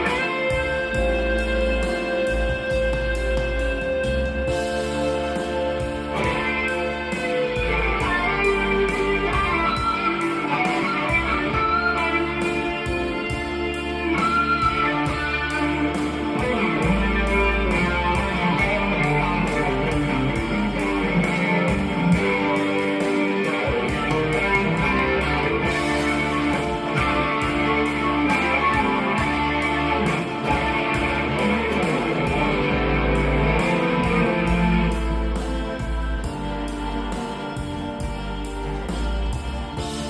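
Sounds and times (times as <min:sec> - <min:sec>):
bass line: 0:00.0 - 0:40.0
electric guitar lead: 0:00.0 - 0:40.0
steady beat: 0:00.0 - 0:40.0.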